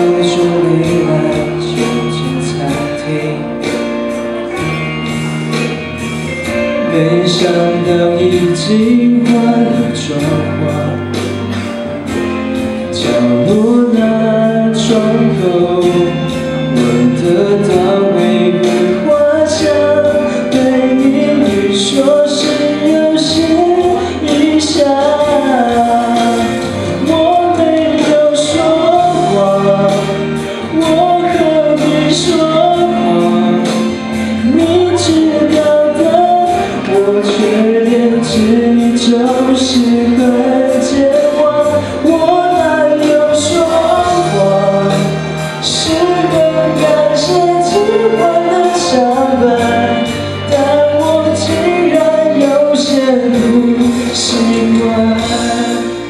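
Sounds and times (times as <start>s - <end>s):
backing track with a beat: 0.0s - 56.0s
young man singing a pop ballad: 0.0s - 56.0s.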